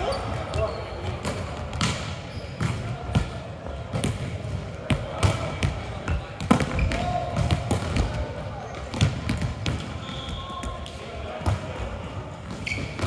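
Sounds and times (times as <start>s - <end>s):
volleyballs smacking and bouncing: 0.3s - 13.0s.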